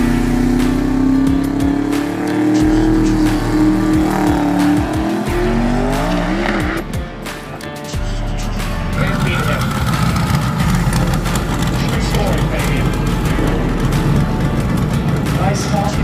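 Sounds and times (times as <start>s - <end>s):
race car engine at high revs: 0.0s - 7.0s, 9.0s - 16.0s
background music: 0.0s - 16.0s.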